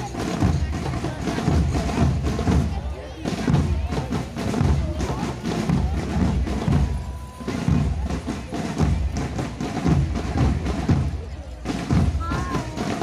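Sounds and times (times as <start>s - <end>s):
music with heavy drumming: 0.0s - 13.0s.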